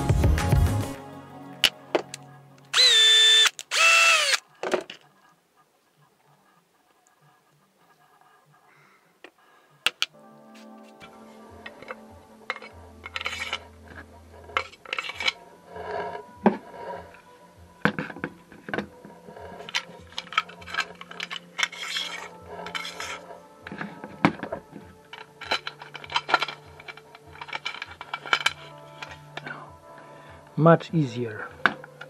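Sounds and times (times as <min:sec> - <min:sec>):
quiet background music: 0:00.0 - 0:32.0.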